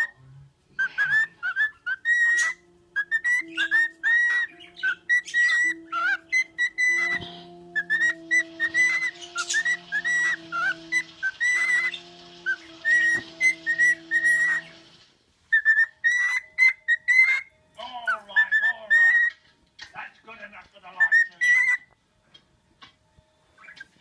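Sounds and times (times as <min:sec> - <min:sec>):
film music from television: 0:00.0 - 0:24.0.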